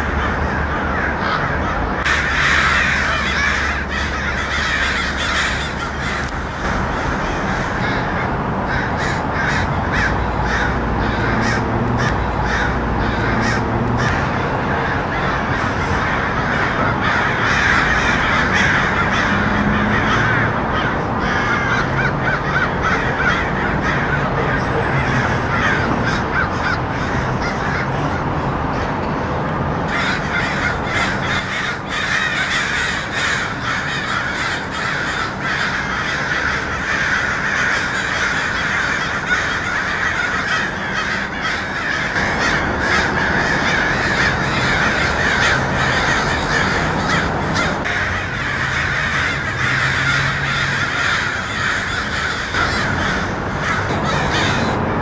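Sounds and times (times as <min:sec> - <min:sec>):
crows cawing: 0:00.0 - 0:29.0, 0:29.9 - 0:55.0.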